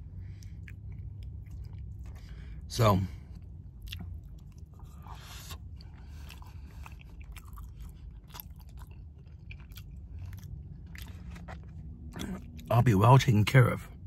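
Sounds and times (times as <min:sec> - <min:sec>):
man chewing food: 0:00.0 - 0:12.7.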